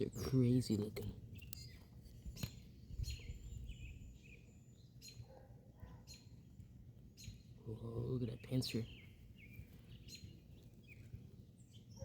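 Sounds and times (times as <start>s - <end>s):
faint songbird chirps: 0.0s - 12.0s.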